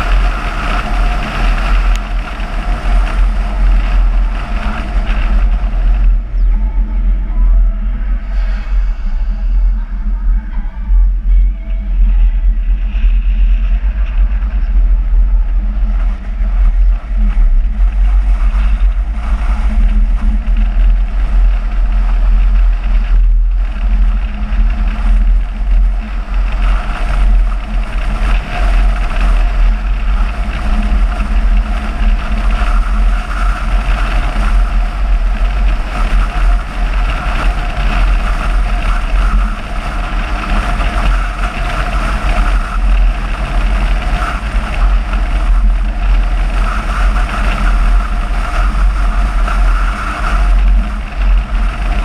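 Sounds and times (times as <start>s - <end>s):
car engine and tyre noise: 0.0s - 52.0s
wind rumble on microphone: 0.0s - 52.0s.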